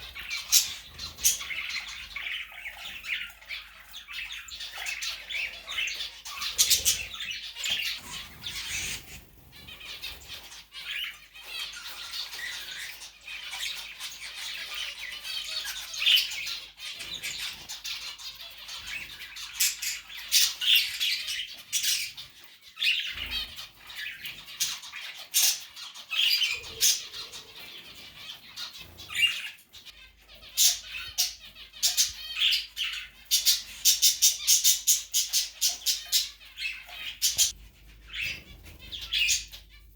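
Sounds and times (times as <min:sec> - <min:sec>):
bird chirping and squawking: 0:00.0 - 0:39.9.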